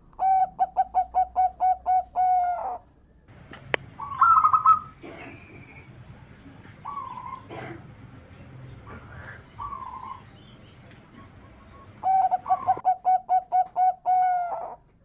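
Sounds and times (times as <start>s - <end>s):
dove cooing: 0.0s - 14.9s.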